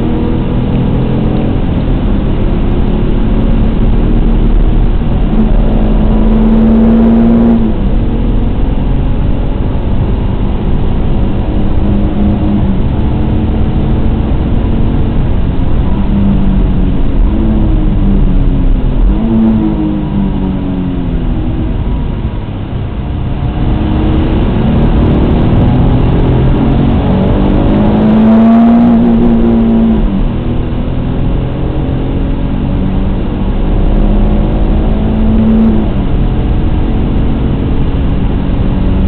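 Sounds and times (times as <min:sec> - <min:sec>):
car engine at full throttle: 0:00.0 - 0:39.0.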